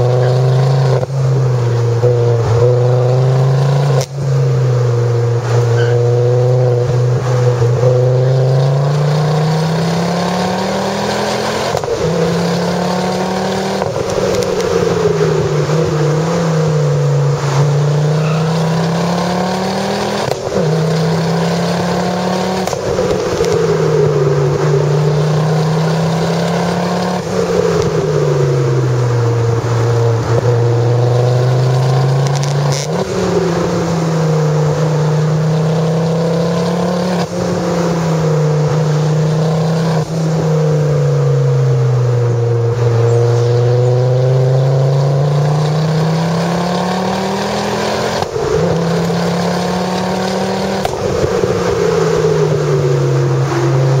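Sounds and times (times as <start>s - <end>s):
car engine revving while driving: 0.0s - 54.0s.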